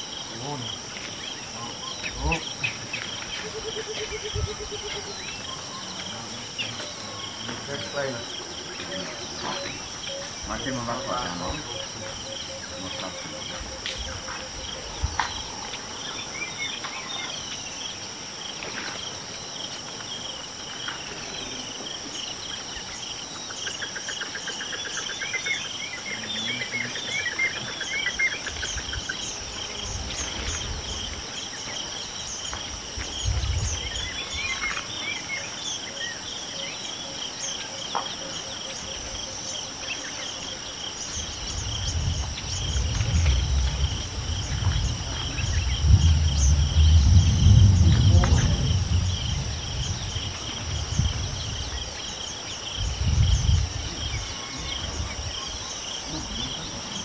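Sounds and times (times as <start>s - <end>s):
birds chirping and trilling: 0.0s - 57.0s
insects droning: 0.0s - 57.0s.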